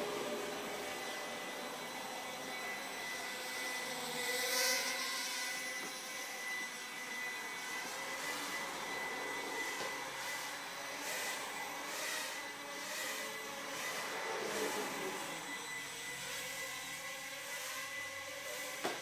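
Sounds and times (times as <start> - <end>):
quadcopter propellers whirring: 0.0 - 19.0.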